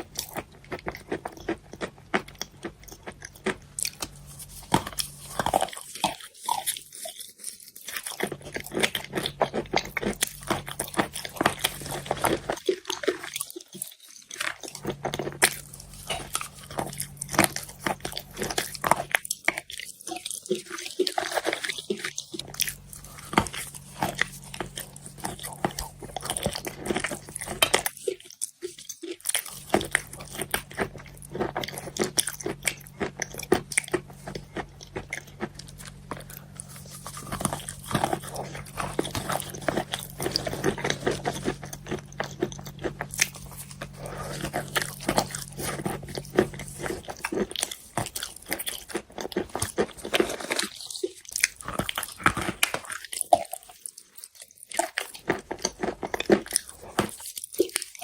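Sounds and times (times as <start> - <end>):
low steady hum: 0.0 - 13.4, 14.3 - 52.8
chewing wet chalk: 0.0 - 58.0.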